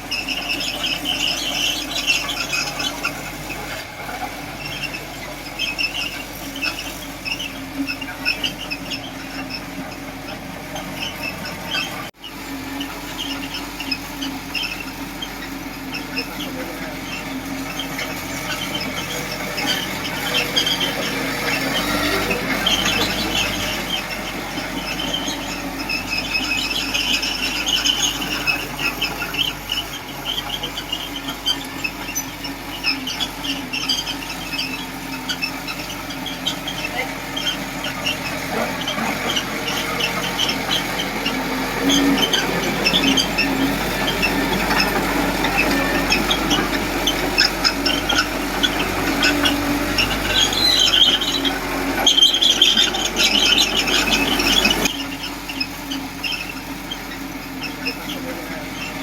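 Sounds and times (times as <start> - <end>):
diesel engine running: 0.0 - 59.0
steel tracks squealing: 0.0 - 59.0.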